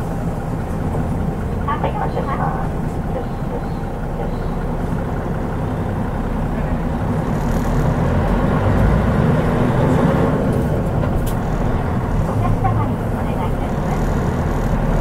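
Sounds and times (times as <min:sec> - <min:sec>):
bus engine rumble: 0:00.0 - 0:15.0
road noise inside bus: 0:00.0 - 0:15.0.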